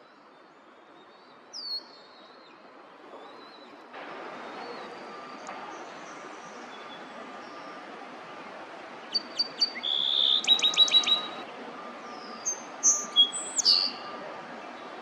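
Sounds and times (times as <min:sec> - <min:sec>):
songbird singing: 0:00.0 - 0:15.0
steady background hiss: 0:00.0 - 0:15.0.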